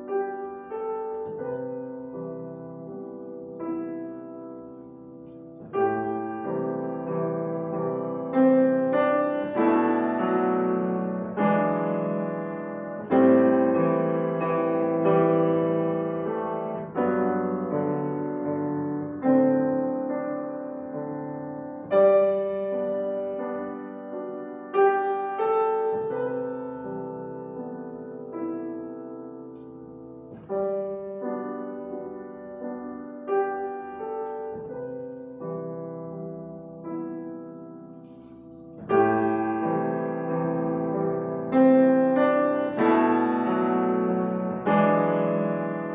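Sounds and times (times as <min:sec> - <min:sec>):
slow classical piano chords: 0:00.0 - 0:45.9.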